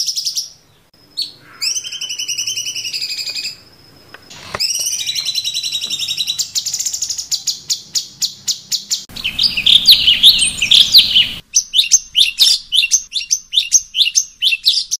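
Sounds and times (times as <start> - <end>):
background hiss: 0.0 - 14.7
bird chirping: 0.0 - 14.9
bird whistling: 1.2 - 3.6, 4.4 - 14.9.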